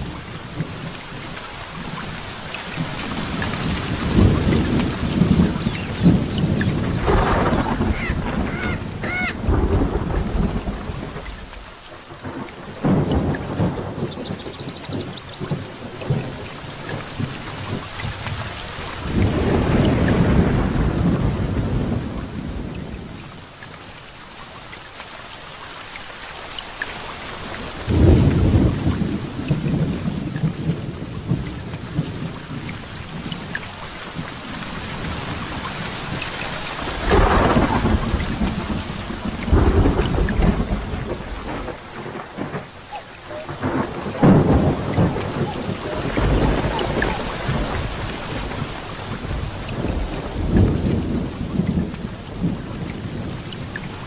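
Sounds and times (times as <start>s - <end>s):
rolling thunder: 0.0s - 23.2s, 27.5s - 36.2s, 36.8s - 54.0s
steady rain: 0.0s - 54.0s.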